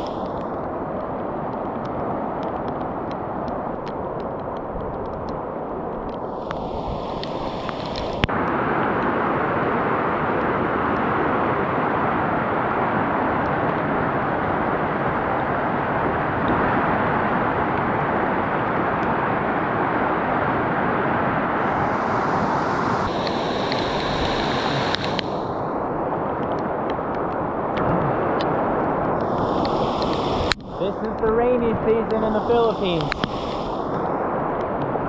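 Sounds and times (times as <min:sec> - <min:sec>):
river rushing over rapids: 0:00.0 - 0:00.6, 0:05.7 - 0:28.0, 0:29.2 - 0:35.0.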